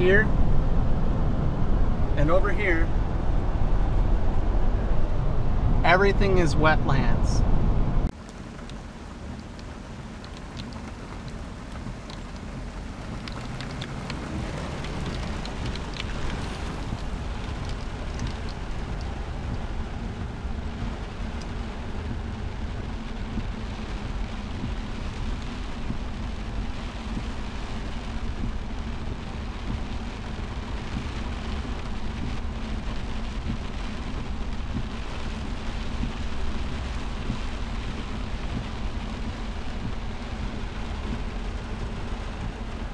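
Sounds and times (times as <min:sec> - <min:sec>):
rain on car windshield and roof: 0:00.0 - 0:05.7, 0:08.0 - 0:42.9
car moving on wet pavement: 0:00.0 - 0:42.9.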